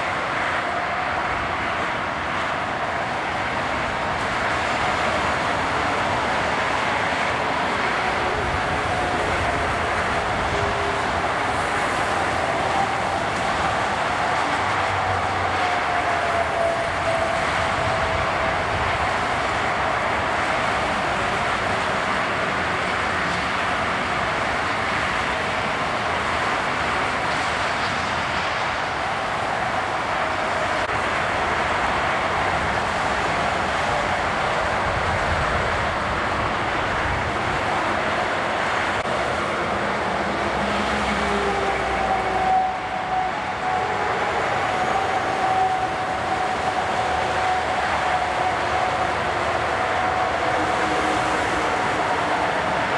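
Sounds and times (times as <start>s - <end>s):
road traffic rush: 0.0s - 52.9s.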